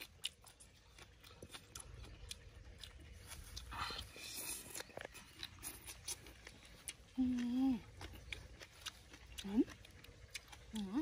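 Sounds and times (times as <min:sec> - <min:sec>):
chewing cooked greens: 0:00.0 - 0:11.0
slurping: 0:00.0 - 0:11.0.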